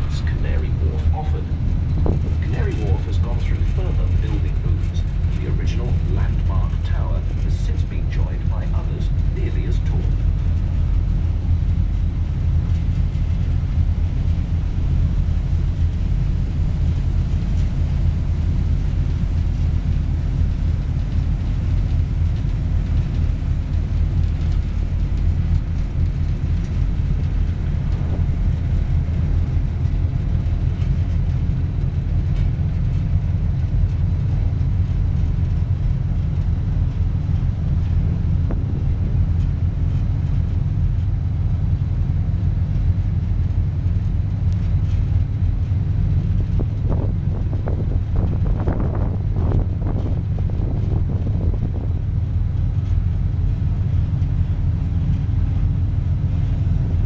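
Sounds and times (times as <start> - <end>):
boat engine deep rumble: 0.0 - 57.0.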